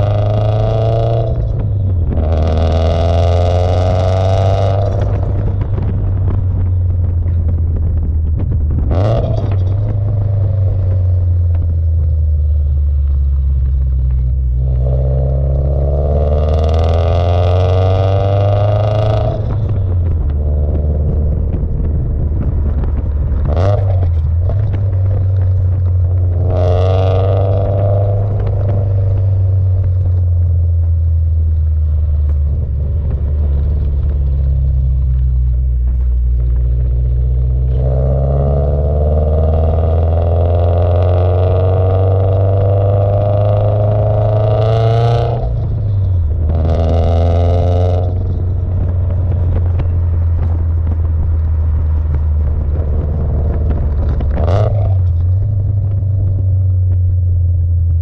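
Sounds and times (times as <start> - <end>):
car exhaust accelerating: 0.0 - 58.0.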